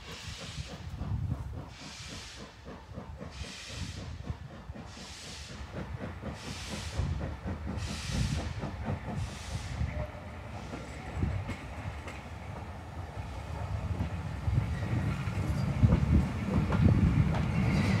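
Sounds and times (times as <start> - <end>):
steam locomotive exhaust beat: 0.0 - 18.0.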